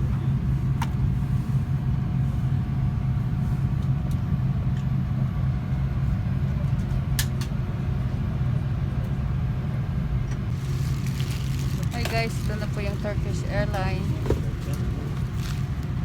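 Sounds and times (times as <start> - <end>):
airliner cabin hum: 0.0 - 16.0.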